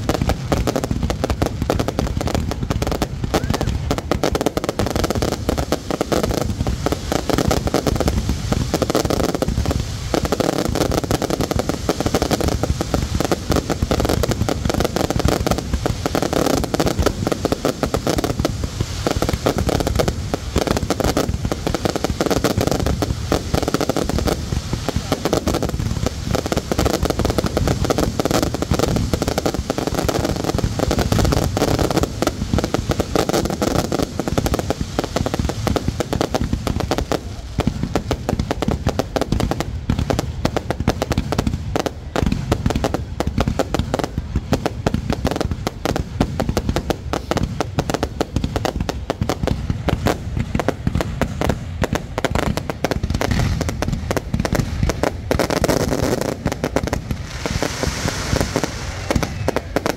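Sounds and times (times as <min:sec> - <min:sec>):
fireworks cracking and banging: 0:00.0 - 0:59.9.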